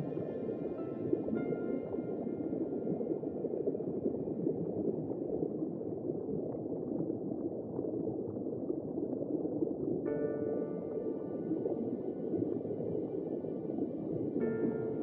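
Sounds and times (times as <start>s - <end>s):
water bubbling and gurgling: 0.0s - 15.0s.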